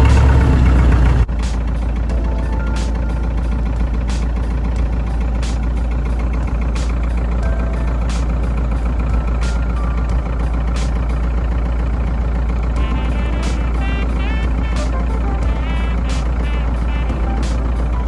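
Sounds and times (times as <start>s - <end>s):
airplane piston engine running: 0.0s - 18.0s.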